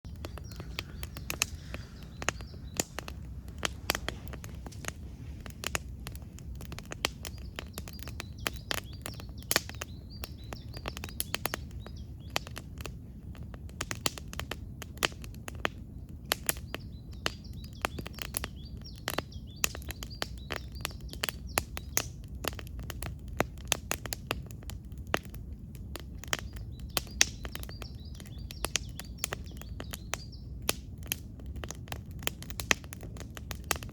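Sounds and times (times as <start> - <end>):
birds chirping: 0.0 - 25.1, 25.8 - 30.7
campfire crackling and popping: 0.0 - 33.9.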